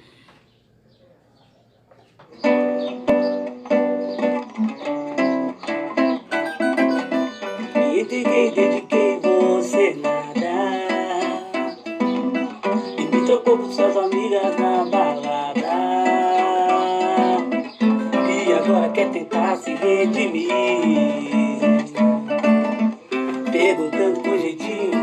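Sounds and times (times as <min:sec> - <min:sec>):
acoustic plucked strings strumming: 0:02.4 - 0:25.0.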